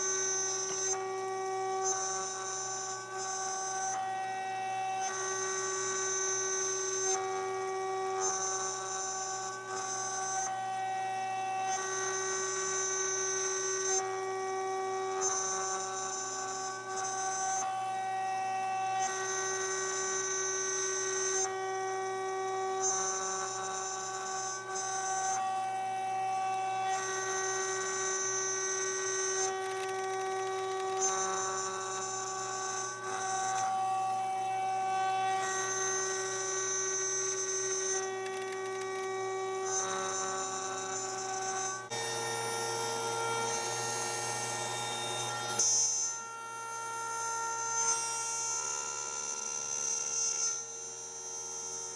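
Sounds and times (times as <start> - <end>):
router spindle whine: 0.0 - 51.9.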